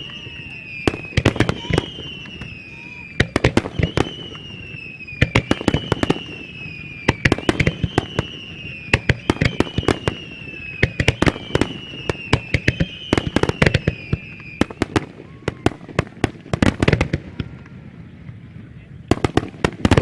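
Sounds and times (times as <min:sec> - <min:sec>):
descending firework whistle: 0:00.0 - 0:20.0
fireworks bursting in bangs: 0:00.0 - 0:20.0.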